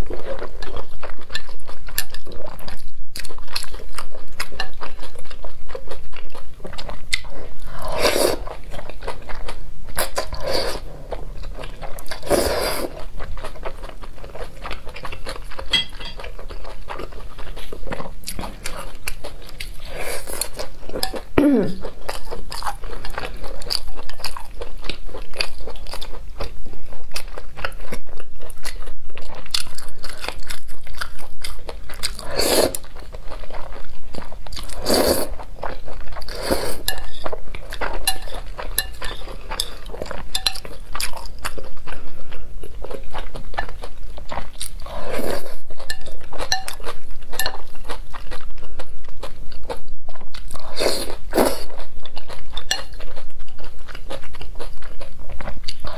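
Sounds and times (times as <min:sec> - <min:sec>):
chewing and crunching noodles: 0:00.0 - 0:55.9.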